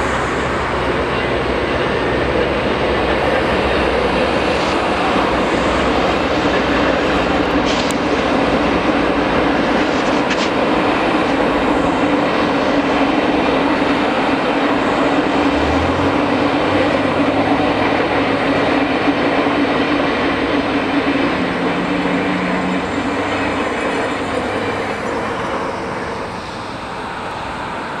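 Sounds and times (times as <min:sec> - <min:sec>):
passenger train rumbling by: 0:00.0 - 0:28.0.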